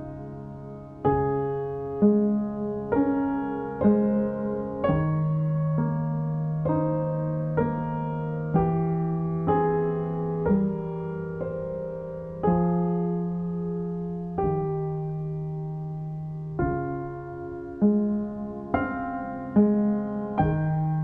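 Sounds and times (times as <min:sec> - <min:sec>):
soft piano music: 0:00.0 - 0:21.0.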